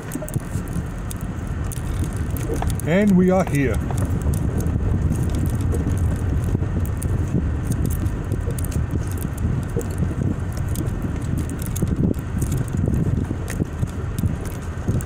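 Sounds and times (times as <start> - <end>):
tyres crackling on gravel: 0.0 - 15.0
vehicle rumble: 0.0 - 15.0.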